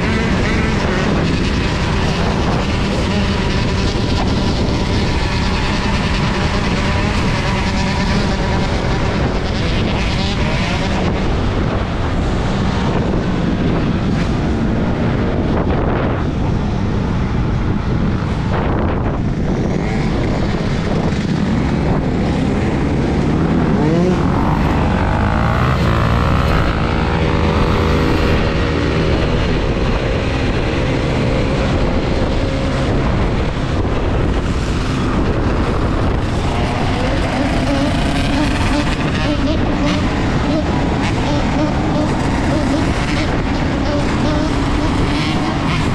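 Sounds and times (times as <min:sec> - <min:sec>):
passing vehicles: 0:00.0 - 0:45.9
road noise: 0:00.0 - 0:45.9
wind rush: 0:00.0 - 0:45.9.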